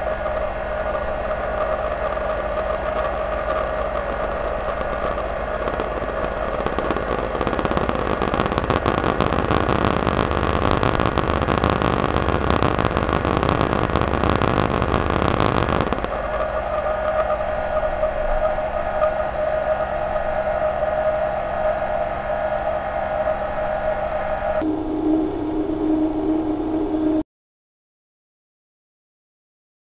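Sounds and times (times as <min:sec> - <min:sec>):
lathe machine hum and whine: 0:00.0 - 0:27.2.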